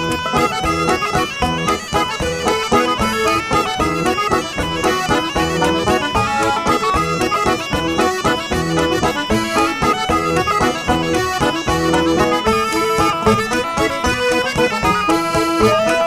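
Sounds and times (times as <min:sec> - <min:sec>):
banjo picking: 0:00.0 - 0:16.0
folk band playing dance tune: 0:00.0 - 0:16.0
reedy melody: 0:00.0 - 0:16.0.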